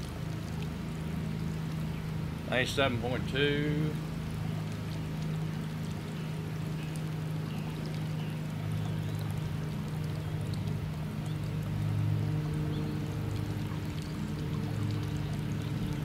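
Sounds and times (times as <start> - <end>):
steady low hum: 0.0 - 16.0
water pouring into pool: 0.0 - 16.0.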